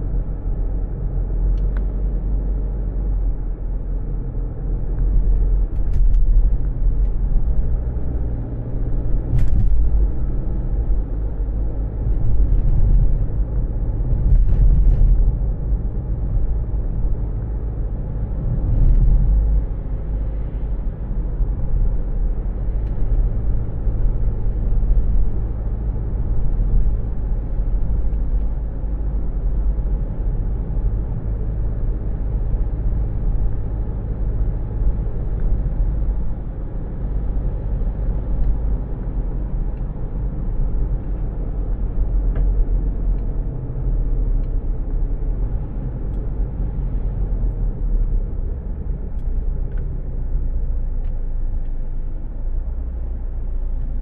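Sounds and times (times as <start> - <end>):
car interior rumble: 0.0 - 54.0.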